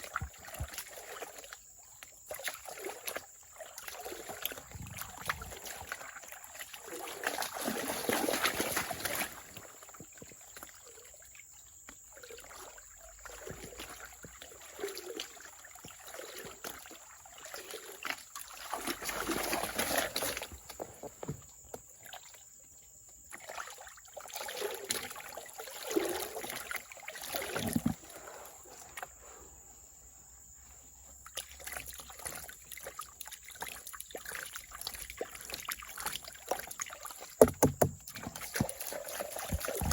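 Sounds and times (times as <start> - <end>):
water sloshing and splashing: 0.0 - 29.6, 31.0 - 39.9.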